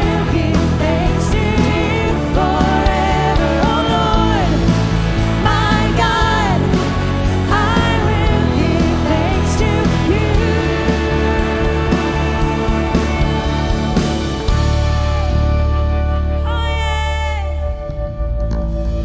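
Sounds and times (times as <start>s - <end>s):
worship band playing: 0.0s - 18.0s.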